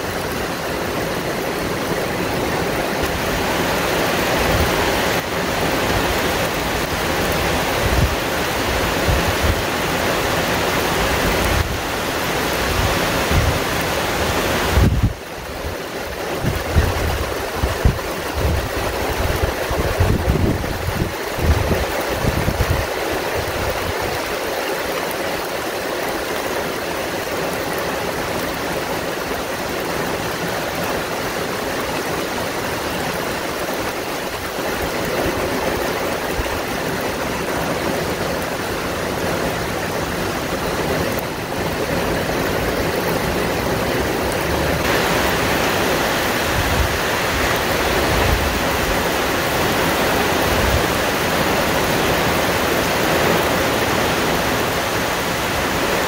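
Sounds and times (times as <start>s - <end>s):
heavy rain on foliage: 0.0s - 56.0s
wind gusts rumbling: 0.0s - 56.0s.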